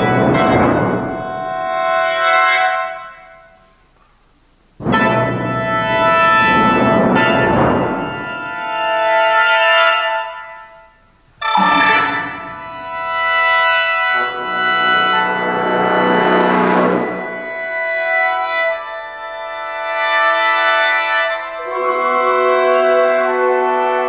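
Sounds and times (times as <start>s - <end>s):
symphony orchestra: 0.0s - 3.6s, 4.8s - 24.0s
mouth organ chords: 0.0s - 3.7s, 4.7s - 24.0s.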